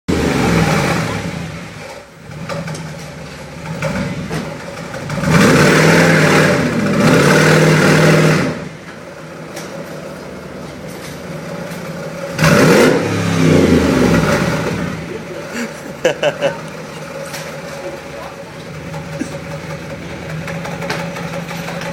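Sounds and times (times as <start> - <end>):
car engine idling and revving: 0.1 - 21.9.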